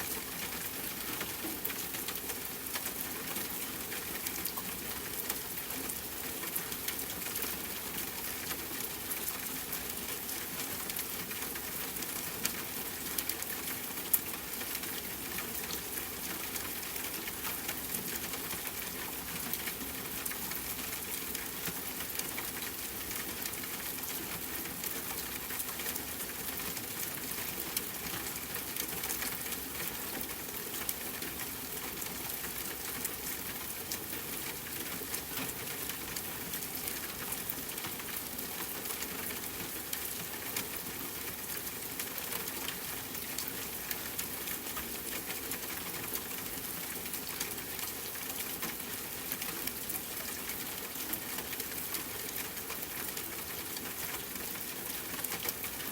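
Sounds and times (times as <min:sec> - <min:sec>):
steady rainfall: 0:00.0 - 0:55.9.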